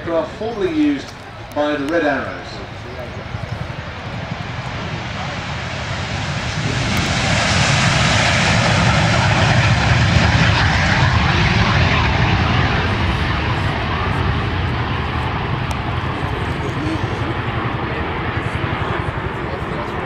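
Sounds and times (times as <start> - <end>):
jet aircraft taking off: 0.0 - 20.0.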